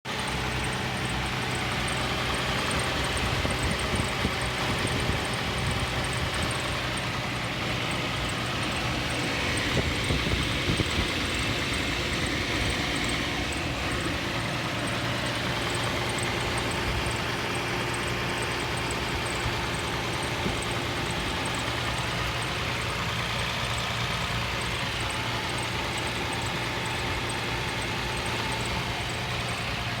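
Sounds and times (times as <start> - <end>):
car engine idling: 0.0 - 30.0
fast regular engine ticking: 0.0 - 30.0.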